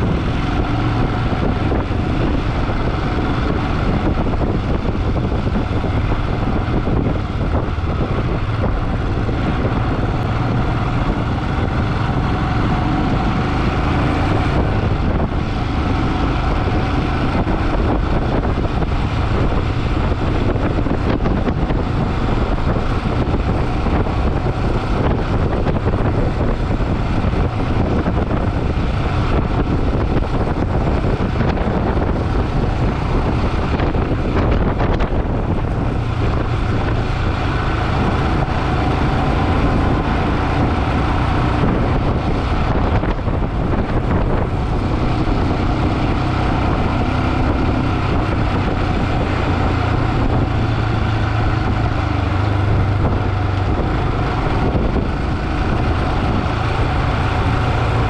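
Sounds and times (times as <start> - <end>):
motorcycle engine rumble: 0.0 - 58.0
wind noise on microphone: 0.0 - 58.0.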